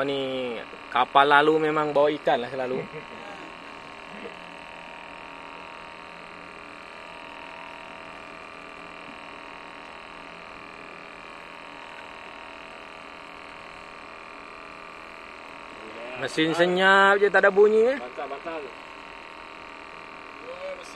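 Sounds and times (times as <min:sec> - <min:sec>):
steady hum with fixed tones: 0:00.0 - 0:20.9.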